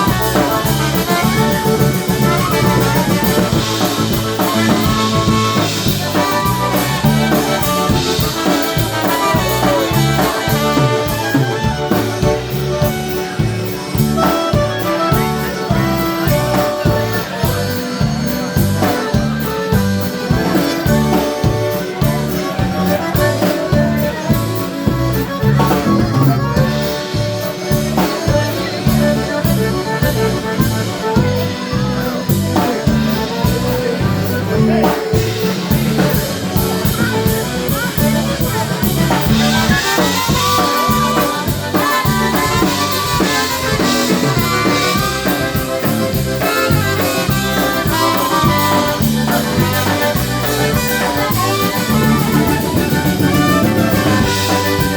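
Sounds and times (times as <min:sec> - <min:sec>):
polka band playing: 0:00.0 - 0:54.9.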